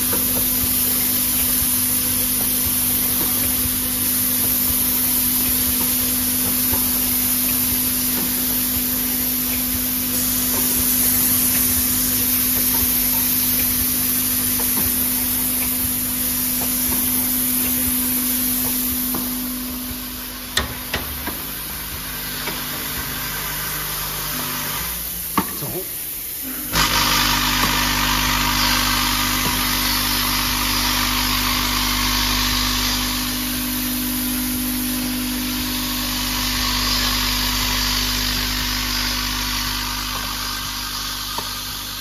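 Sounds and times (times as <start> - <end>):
bottling machine humming: 0.0 - 42.0.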